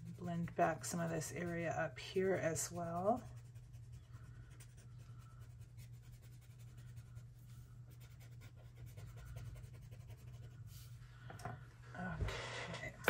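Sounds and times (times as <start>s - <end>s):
blending stump rubbing on paper: 0.0s - 11.0s
low steady hum: 0.0s - 13.0s.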